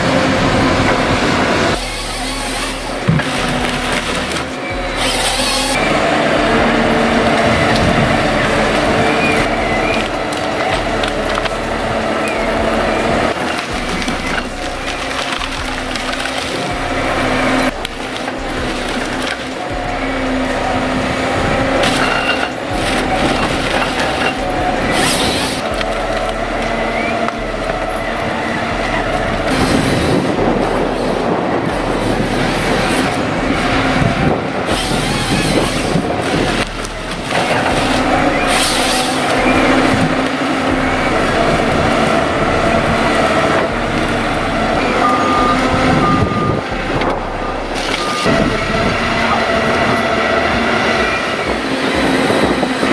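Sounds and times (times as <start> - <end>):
reversing alarm beeping: 0.0 - 52.6
heavy machinery running: 0.0 - 52.9.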